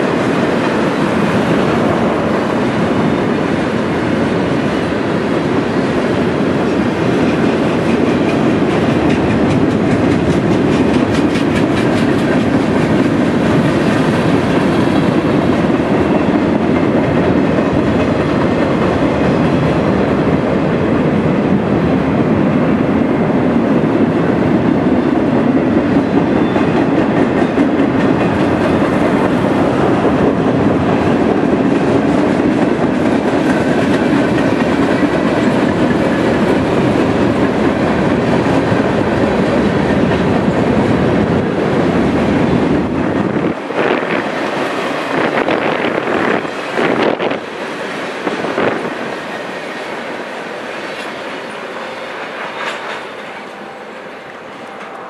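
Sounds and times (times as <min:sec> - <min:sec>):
freight train rolling past: 0:00.0 - 0:55.0
steel wheels rumbling on rail: 0:00.0 - 0:55.0
rhythmic clickety-clack of wheels: 0:05.3 - 0:50.1, 0:50.7 - 0:53.5.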